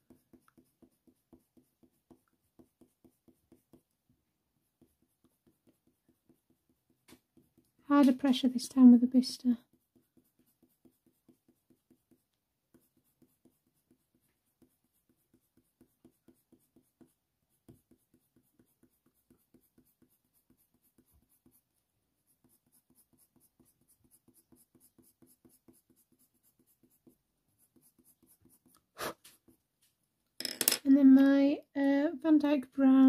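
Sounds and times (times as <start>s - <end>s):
coloured pencil scratching on paper: 0.0s - 29.7s.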